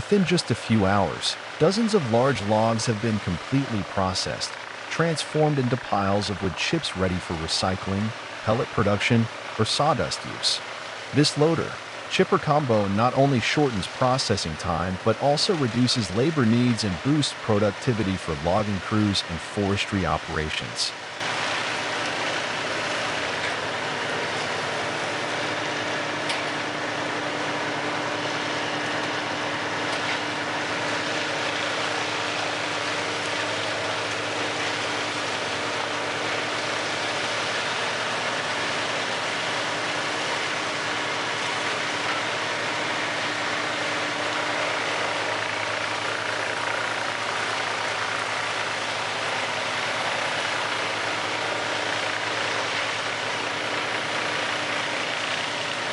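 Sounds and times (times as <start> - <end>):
engine drone: 0.0 - 55.9
wood chipper running: 0.0 - 55.9.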